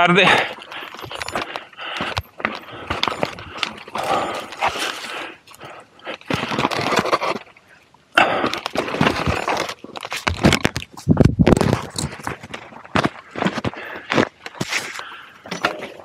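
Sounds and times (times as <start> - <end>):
bike rattling: 0.0 - 7.5, 8.2 - 16.0
tyres crunching over stones: 0.1 - 16.0.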